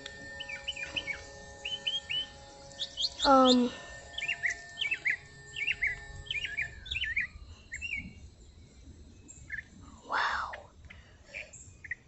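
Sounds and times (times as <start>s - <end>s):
small bird chirping: 0.3s - 10.7s, 11.3s - 12.0s.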